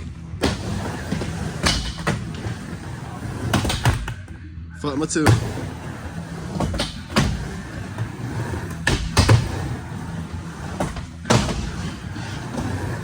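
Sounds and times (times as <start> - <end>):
skateboard wheels rolling: 0.0 - 4.4, 5.3 - 13.0.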